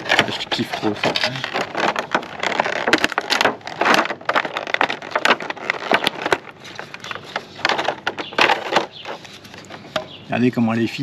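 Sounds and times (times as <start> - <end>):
packaging rustling and crackling: 0.0 - 10.1.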